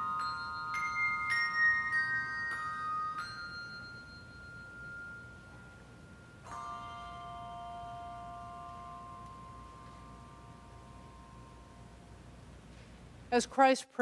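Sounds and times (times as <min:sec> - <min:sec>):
handbell chords ringing: 0:00.0 - 0:12.2.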